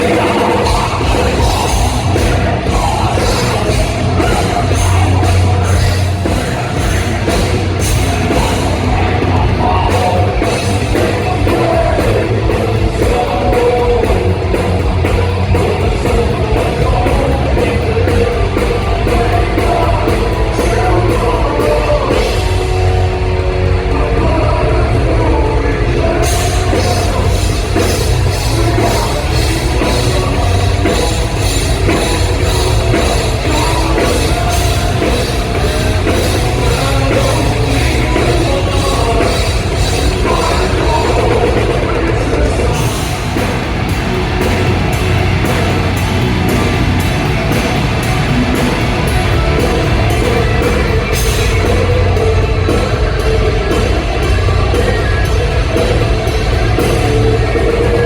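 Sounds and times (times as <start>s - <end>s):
person singing: 0.0s - 43.6s, 48.2s - 58.0s
bass guitar: 0.0s - 58.0s
distorted electric guitars: 0.0s - 58.0s
fast drum kit with cymbals: 0.0s - 58.0s.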